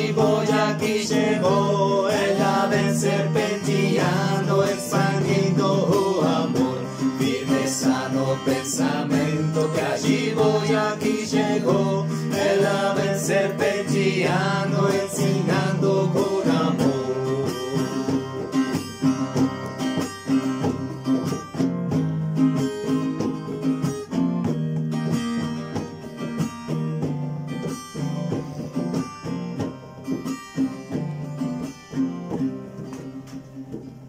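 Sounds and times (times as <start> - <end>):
guitar strumming chords: 0.0 - 34.0.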